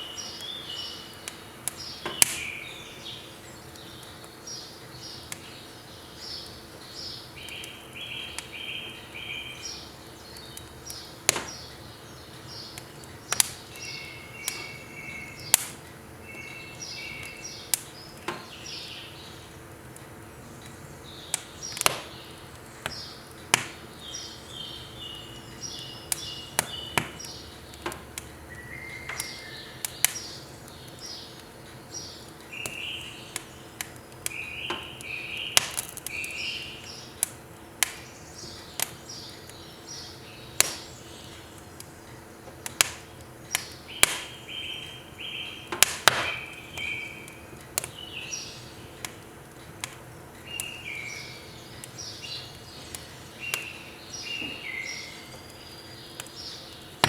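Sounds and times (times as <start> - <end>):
birds chirping: 0.0 - 57.0
firewood crackling in stove: 0.0 - 57.0.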